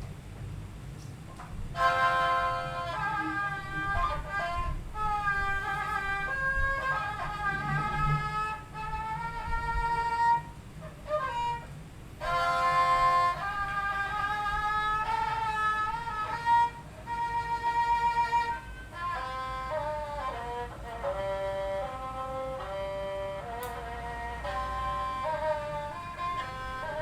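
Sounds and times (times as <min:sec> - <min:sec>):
bowed fiddle melody: 0:01.7 - 0:27.0.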